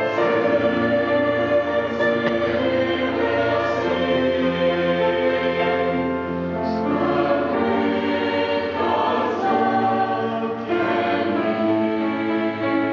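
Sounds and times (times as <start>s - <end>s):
mixed choir singing in harmony: 0.0s - 12.9s.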